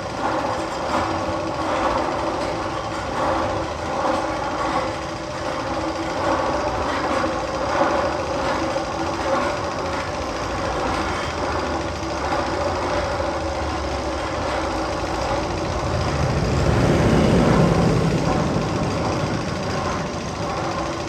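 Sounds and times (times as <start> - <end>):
machine-like rumble: 0.0 - 21.0.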